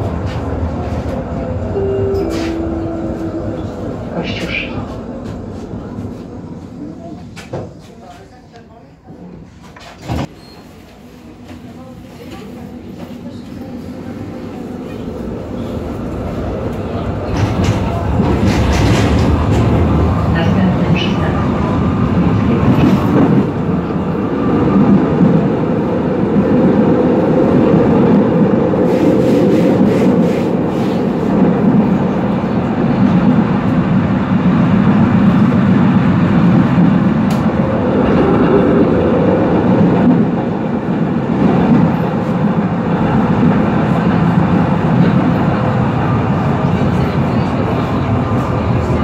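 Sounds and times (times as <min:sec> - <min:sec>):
tram wheels rumbling on rails: 0:00.0 - 0:10.3, 0:10.9 - 0:49.0.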